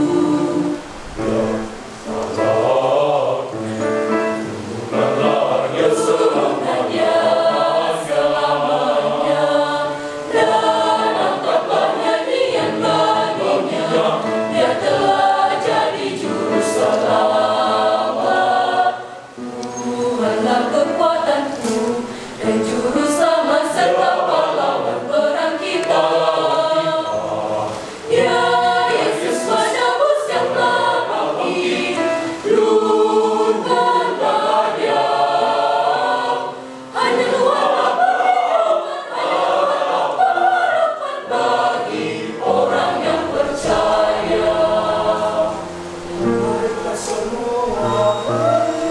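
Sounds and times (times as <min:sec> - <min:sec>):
youth choir singing: 0:00.0 - 0:48.9.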